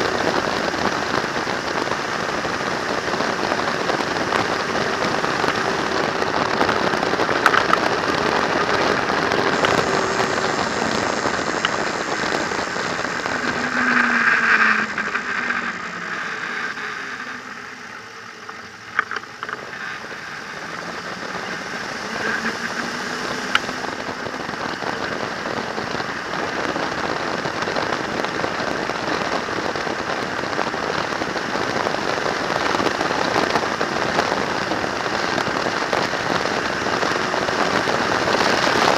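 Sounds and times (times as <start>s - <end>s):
faint engine: 0.0s - 38.9s.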